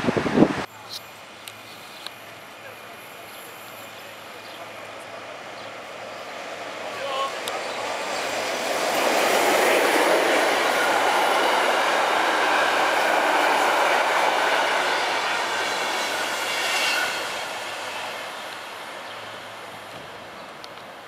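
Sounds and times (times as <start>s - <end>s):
train wheels rushing on rails: 2.4s - 21.0s.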